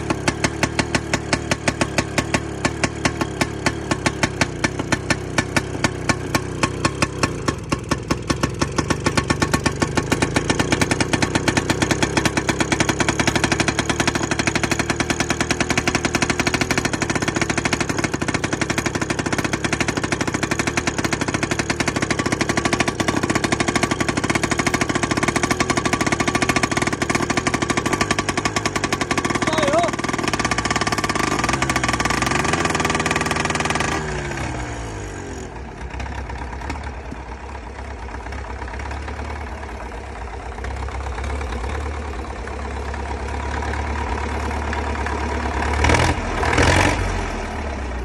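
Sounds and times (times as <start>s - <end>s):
tractor engine exhaust pulses: 0.0s - 48.0s.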